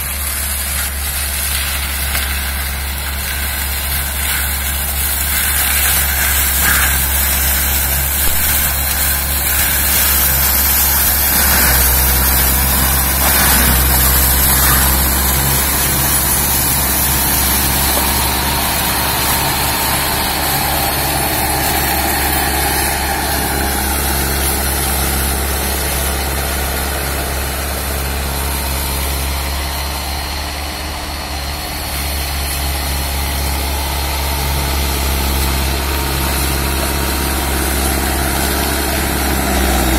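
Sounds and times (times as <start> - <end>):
mulcher shredding brush: 0.0 - 39.9
tractor diesel engine under load: 0.0 - 39.9.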